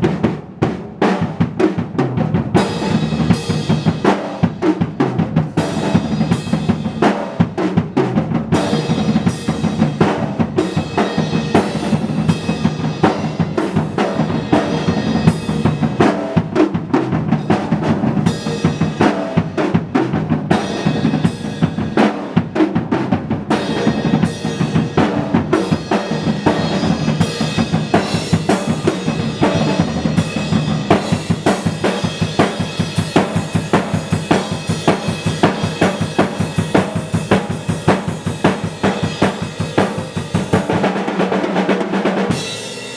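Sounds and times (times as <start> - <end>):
drum kit playing busy rhythm: 0.0 - 42.9.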